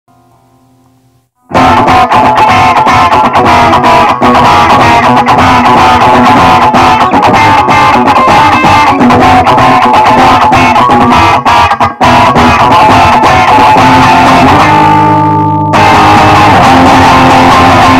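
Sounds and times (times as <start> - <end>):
punk rock song: 1.4 - 17.9.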